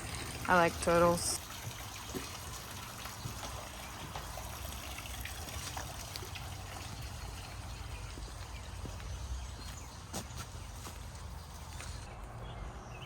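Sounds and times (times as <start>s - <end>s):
water trickling in a creek: 0.0s - 12.4s.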